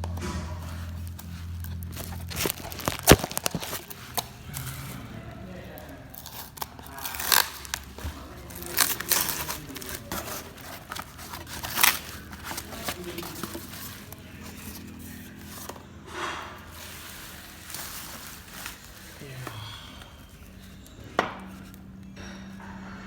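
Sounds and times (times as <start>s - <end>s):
crinkling: 0.0s - 22.5s
scraping: 0.0s - 23.0s.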